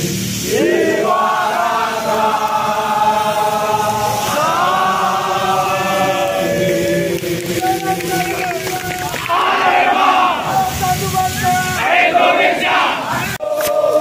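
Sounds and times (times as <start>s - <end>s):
crowd chanting in unison: 0.0s - 14.0s.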